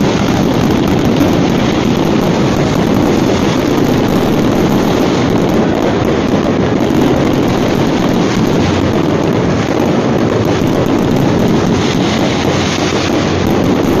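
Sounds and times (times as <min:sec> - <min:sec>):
fireworks barrage crackling: 0:00.0 - 0:14.0.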